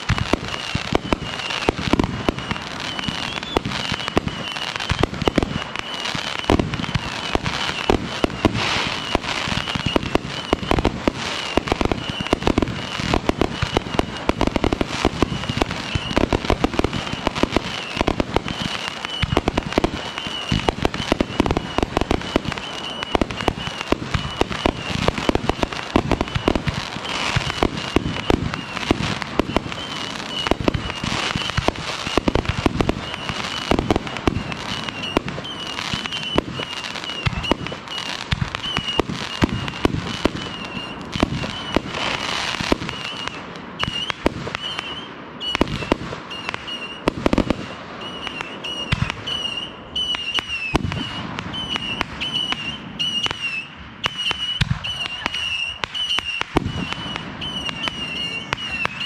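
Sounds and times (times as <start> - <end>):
firework crackle: 0.0 - 59.0
fireworks bangs and pops: 0.0 - 59.0.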